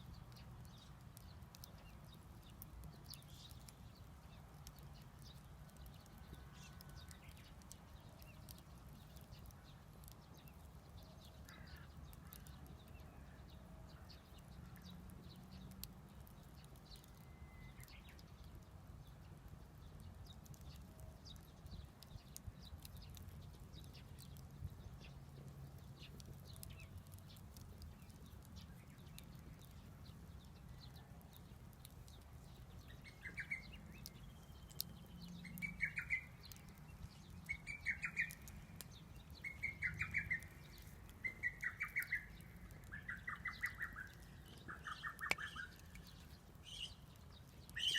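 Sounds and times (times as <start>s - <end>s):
bird chirping faintly: 0.0s - 47.9s
wood fire crackling: 0.0s - 47.9s.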